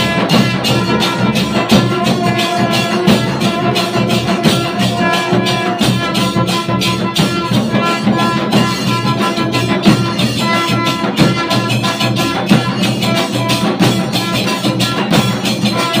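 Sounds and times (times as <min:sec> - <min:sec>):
fast percussion beat: 0:00.0 - 0:16.0.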